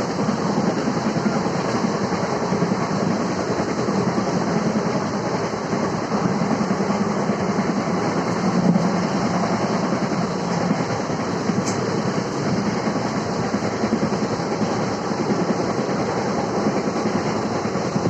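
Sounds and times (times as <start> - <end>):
clickety-clack over rail joints: 0.0 - 18.0
train wheels rumbling on rails: 0.0 - 18.0.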